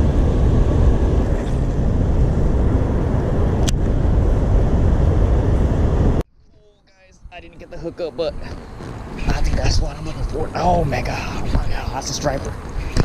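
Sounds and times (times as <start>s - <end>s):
wind buffeting microphone: 0.0s - 6.2s, 7.0s - 13.0s.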